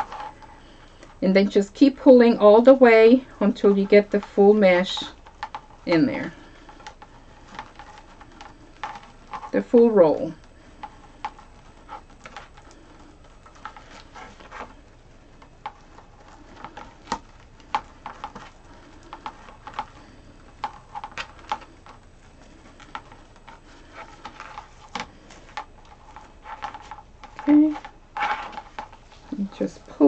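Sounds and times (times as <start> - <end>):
mesh rustling and crackling: 0.0 - 30.0.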